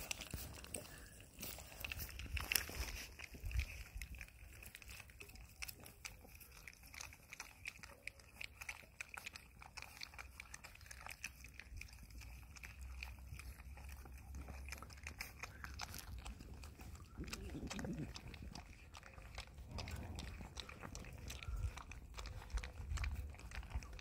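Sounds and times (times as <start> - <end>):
puppies lapping milk: 0.0 - 24.0.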